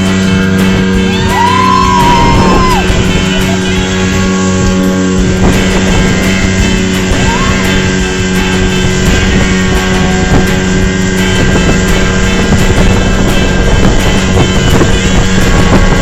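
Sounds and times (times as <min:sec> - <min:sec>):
music playing: 0:00.0 - 0:16.0
speedboat engine running: 0:00.0 - 0:16.0.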